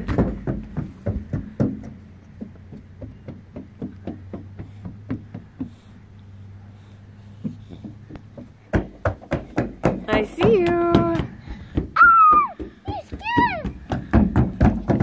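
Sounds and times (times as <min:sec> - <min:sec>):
children running on wooden boardwalk: 0:00.0 - 0:06.0, 0:06.8 - 0:15.0.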